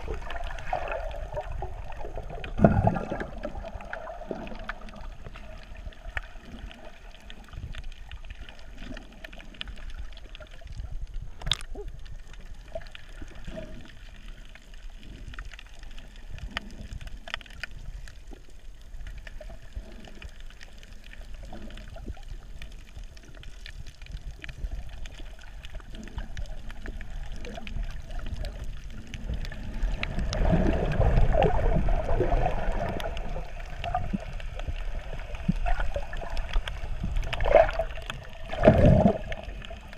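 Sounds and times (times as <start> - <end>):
muffled underwater water noise: 0.0 - 39.9
small underwater clicks and crackles: 0.0 - 39.9
water churning from swimmers: 0.0 - 39.9.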